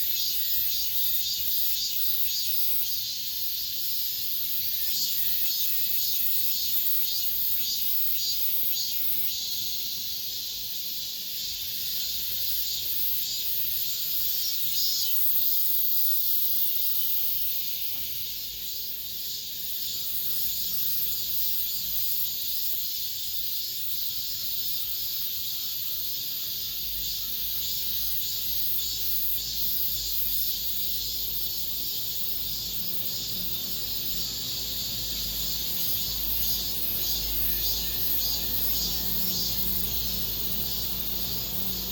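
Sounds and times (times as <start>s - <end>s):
cicadas buzzing: 0.0s - 41.9s.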